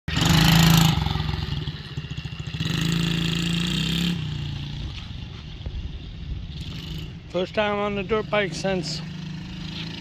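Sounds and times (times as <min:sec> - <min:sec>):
dirt bike engine revving: 0:00.1 - 0:10.0.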